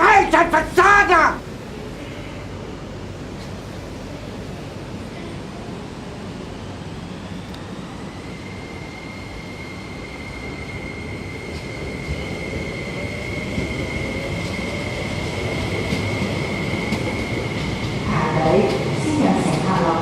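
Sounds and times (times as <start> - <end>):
electric train whine: 0.0 - 20.0
train rumble: 0.0 - 20.0.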